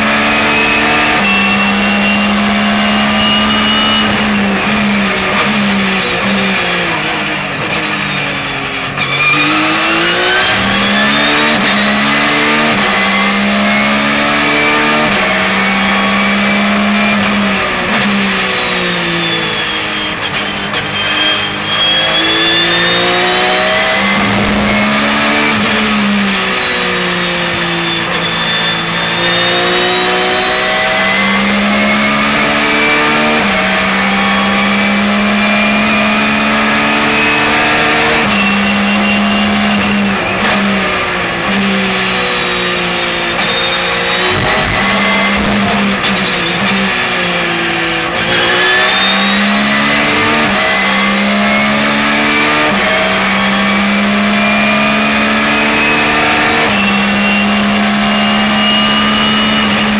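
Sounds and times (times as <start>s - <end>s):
racing engine revving: 0.0s - 59.9s.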